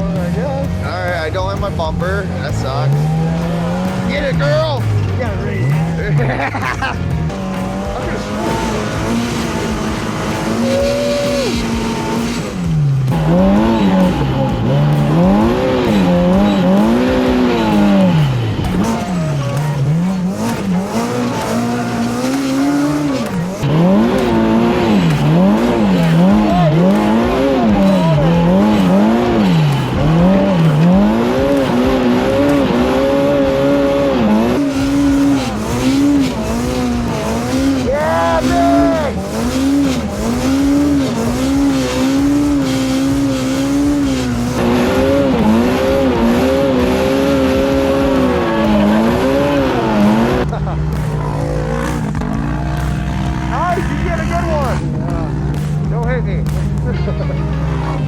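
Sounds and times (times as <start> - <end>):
utility vehicle engine revving: 0.0 - 58.0.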